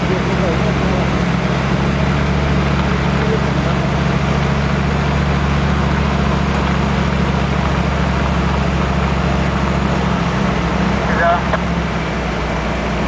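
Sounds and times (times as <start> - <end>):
diesel engines droning: 0.0 - 13.0.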